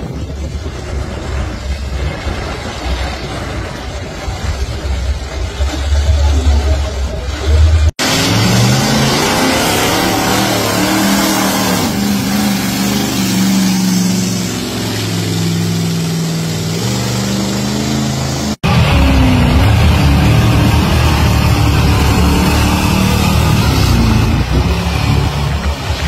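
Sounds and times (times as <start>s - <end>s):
truck engine revving in mud: 0.0s - 26.0s.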